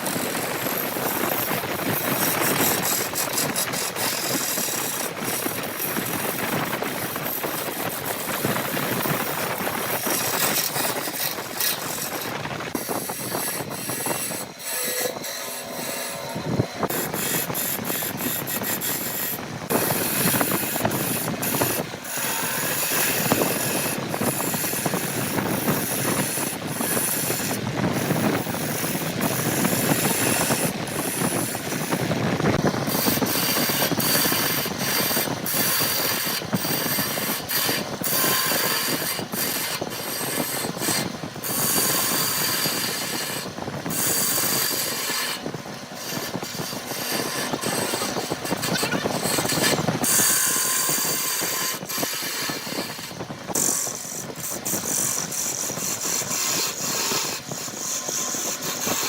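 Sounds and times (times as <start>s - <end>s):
woodworking tools scraping wood: 0.0s - 59.0s.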